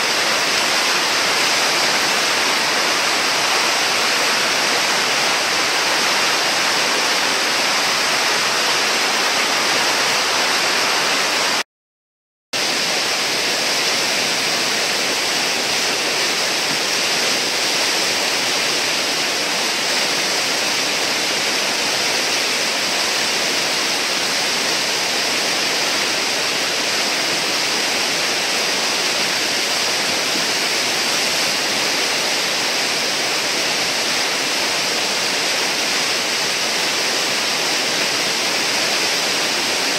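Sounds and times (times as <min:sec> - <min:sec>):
whitewater river rushing: 0:00.0 - 0:11.6, 0:12.6 - 0:39.9.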